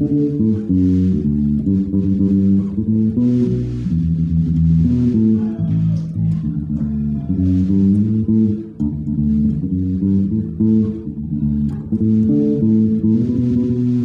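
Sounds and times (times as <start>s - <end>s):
electric bass guitar line: 0.0s - 14.0s.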